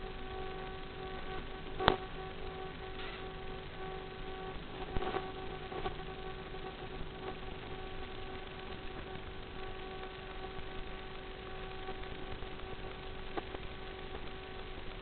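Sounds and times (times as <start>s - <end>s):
faint tonal hum: 0.0s - 15.0s
static hiss: 0.0s - 15.0s.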